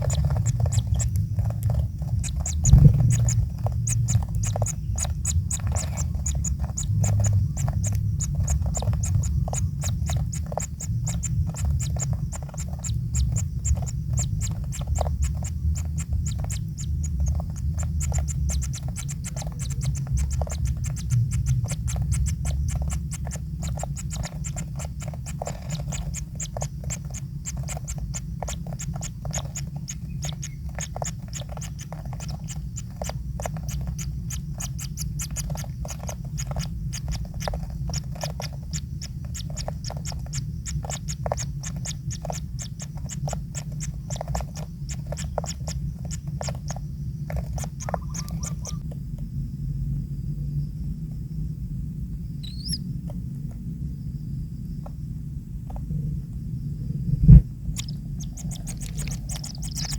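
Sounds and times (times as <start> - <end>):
nestlings begging calls: 0.0 - 48.8, 52.4 - 52.8, 57.7 - 59.9
low rumble: 0.0 - 59.9.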